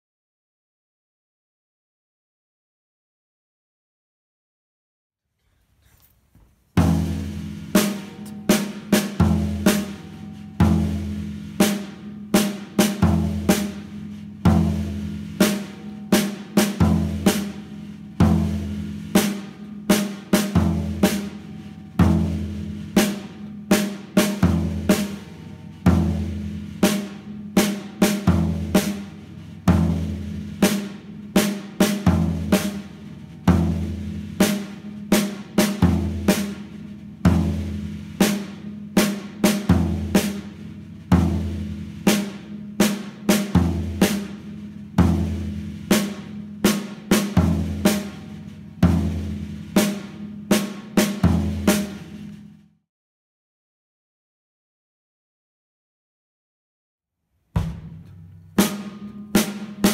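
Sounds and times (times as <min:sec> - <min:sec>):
floor tom strokes: 0:05.8 - 0:52.6, 0:57.6 - 0:59.9
snare drum cracks: 0:05.8 - 0:52.7, 0:57.6 - 0:59.9.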